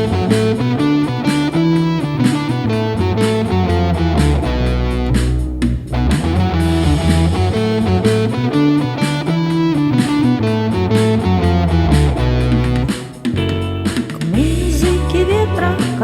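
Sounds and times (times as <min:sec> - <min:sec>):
bass: 0:00.0 - 0:16.0
drums: 0:00.0 - 0:16.0
electric guitar playing blues: 0:00.0 - 0:16.0.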